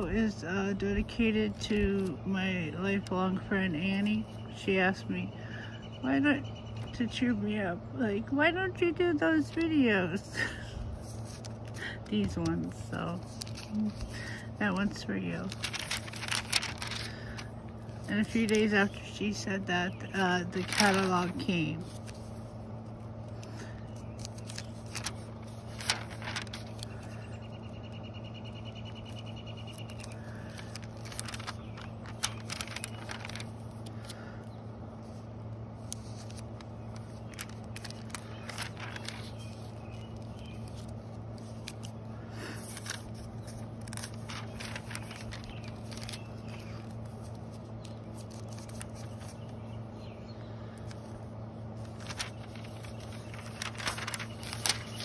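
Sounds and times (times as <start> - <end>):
paper pages rustling: 0.0 - 4.7, 9.3 - 34.3, 35.0 - 49.8, 50.7 - 55.0
steady low hum: 0.0 - 55.0.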